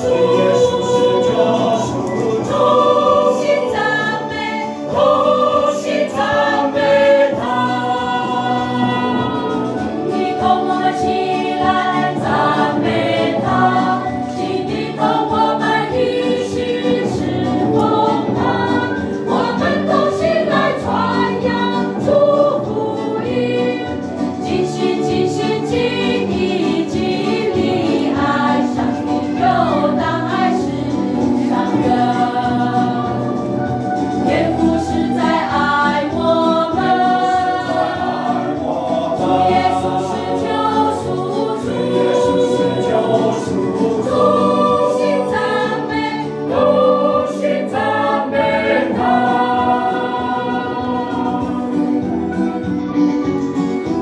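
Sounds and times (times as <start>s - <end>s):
choir singing a hymn: 0.0s - 52.8s
low accompanying notes: 0.0s - 52.8s.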